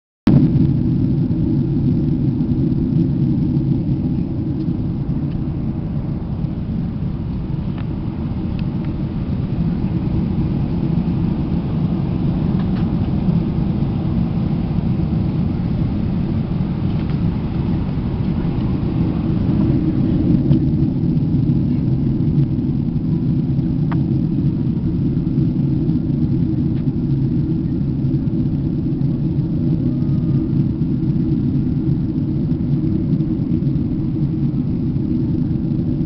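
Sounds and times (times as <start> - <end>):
airliner cabin engine rumble: 0.3 - 36.0.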